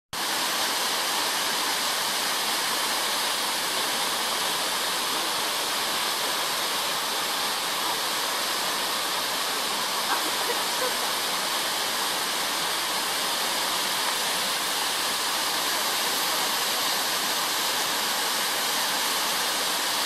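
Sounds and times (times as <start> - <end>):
waterfall rushing: 0.2 - 20.0.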